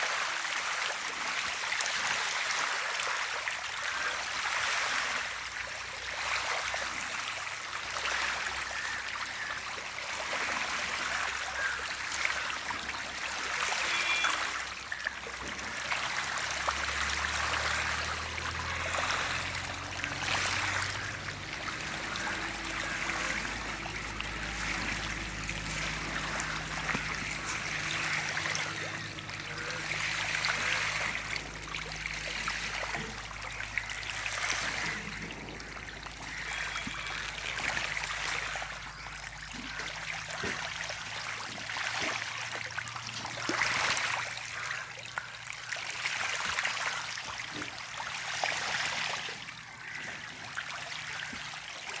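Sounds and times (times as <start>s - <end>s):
water trickling and splashing: 0.0s - 52.0s.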